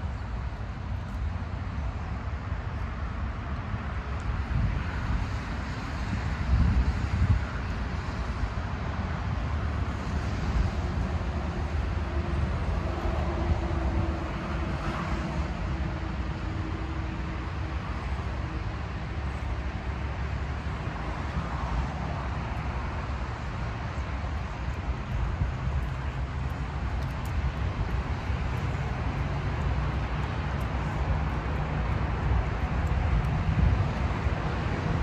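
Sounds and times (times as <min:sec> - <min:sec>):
distant traffic rumble: 0:00.0 - 0:35.0.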